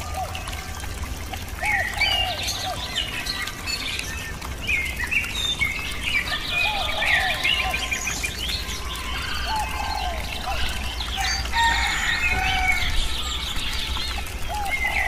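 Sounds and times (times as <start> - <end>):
birds chirping and trilling: 0.0 - 15.0
lower arching bird calls: 0.0 - 15.0.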